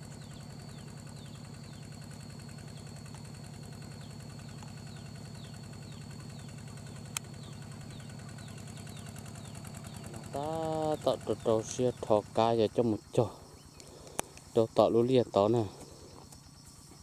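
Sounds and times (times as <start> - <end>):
walk-behind tractor engine running: 0.0 - 17.0.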